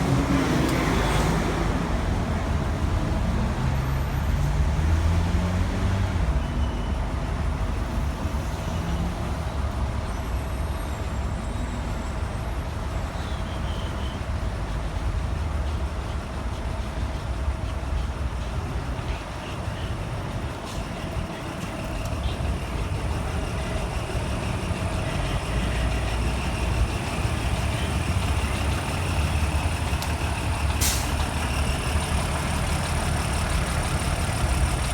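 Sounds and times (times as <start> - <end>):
diesel truck engine rumble: 0.0 - 34.9
street traffic: 0.0 - 34.9.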